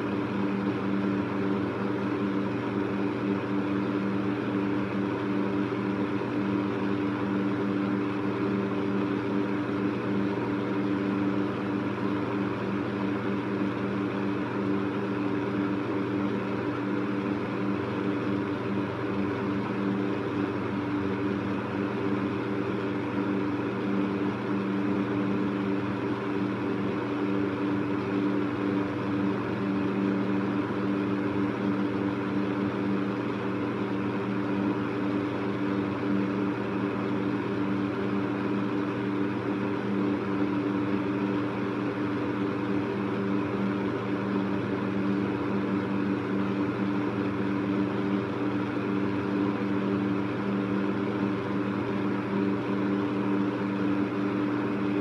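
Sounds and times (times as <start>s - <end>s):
electric fan motor hum: 0.0s - 55.0s.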